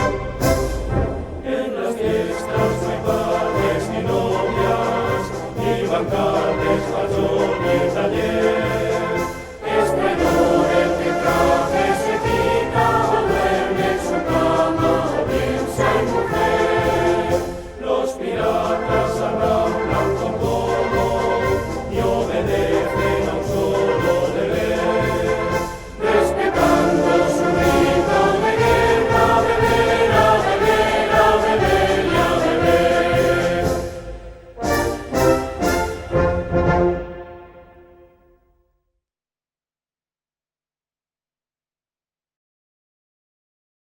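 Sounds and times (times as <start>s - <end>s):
choir singing: 0.0s - 38.1s
instrumental accompaniment: 0.0s - 38.4s.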